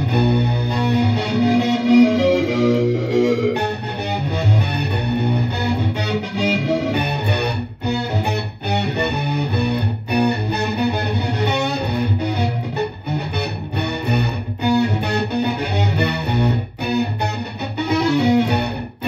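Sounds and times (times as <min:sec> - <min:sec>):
distorted electric guitar riff: 0:00.0 - 0:19.0.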